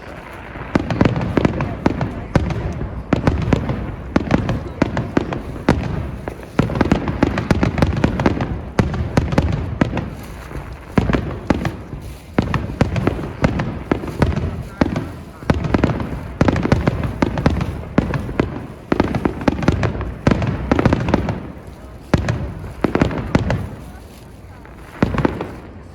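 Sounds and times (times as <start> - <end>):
fireworks bangs and crackling bursts: 0.0 - 25.9.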